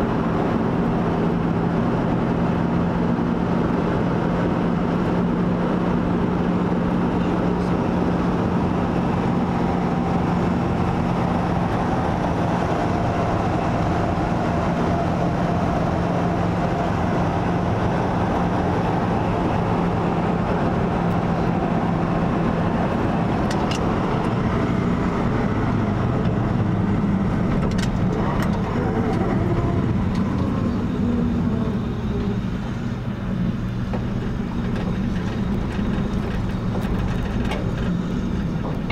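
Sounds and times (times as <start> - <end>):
road and wind noise: 0.0 - 38.9
truck engine running: 0.0 - 38.9.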